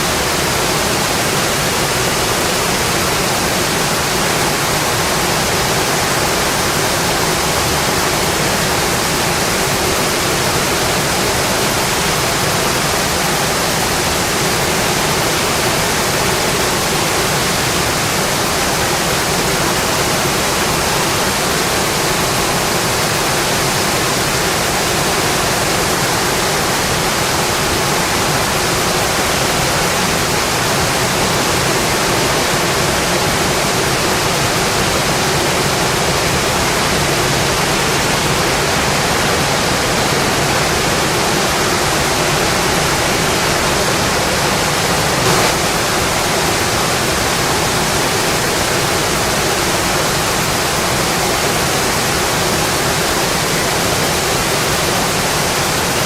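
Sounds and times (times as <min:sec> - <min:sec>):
dense rainfall: 0:00.0 - 0:56.0.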